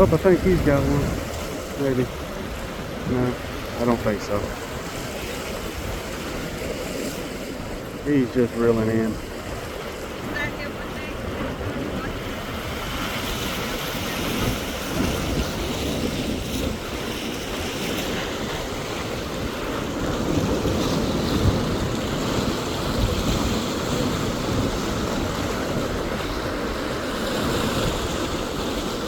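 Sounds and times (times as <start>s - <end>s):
ocean surf breaking on rocks: 0.0s - 29.0s
wind buffeting microphone: 0.0s - 29.0s.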